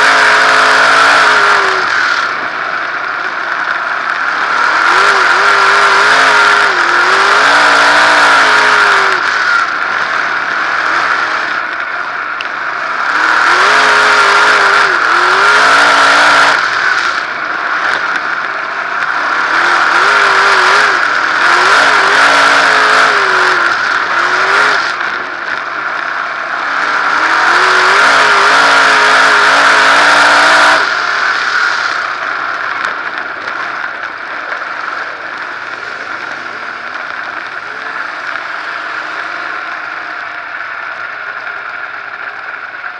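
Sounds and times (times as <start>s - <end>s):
race car engine revving: 0.0s - 42.9s.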